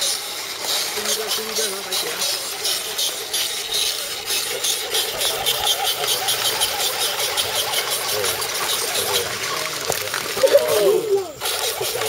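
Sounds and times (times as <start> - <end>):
electric motor and gears whirring: 0.0 - 12.0.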